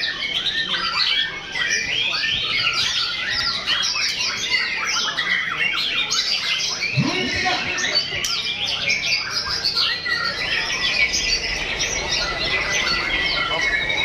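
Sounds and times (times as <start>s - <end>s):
songbirds whistling and chirping: 0.0s - 14.0s.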